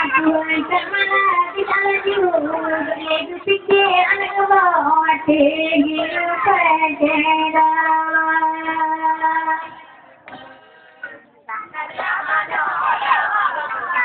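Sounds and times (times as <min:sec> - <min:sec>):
woman singing a chant: 0:00.0 - 0:10.1, 0:11.5 - 0:14.0.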